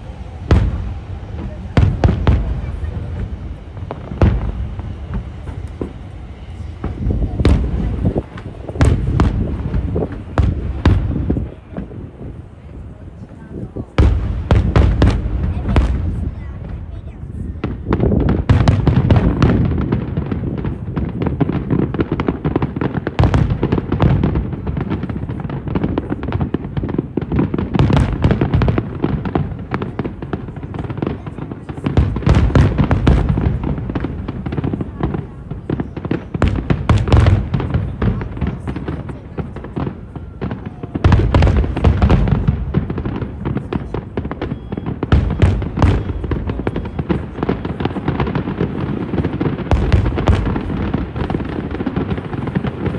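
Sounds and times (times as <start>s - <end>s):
deep firework booms: 0.0s - 52.9s
firework bursts and crackling: 0.0s - 52.9s.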